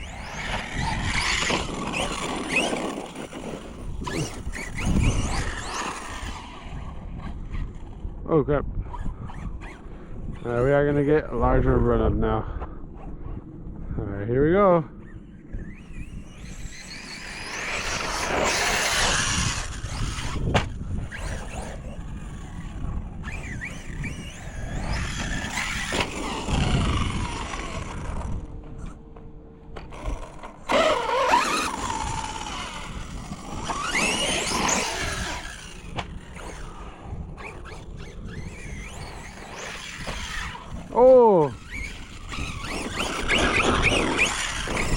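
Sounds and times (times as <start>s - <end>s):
electric motor whining: 0.0s - 8.1s, 14.9s - 29.2s, 29.8s - 44.9s.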